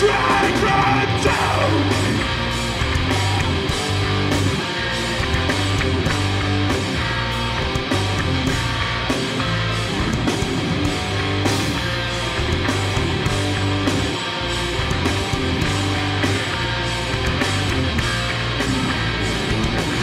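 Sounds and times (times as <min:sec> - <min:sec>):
bass guitar: 0:00.0 - 0:20.0
distorted electric guitars: 0:00.0 - 0:20.0.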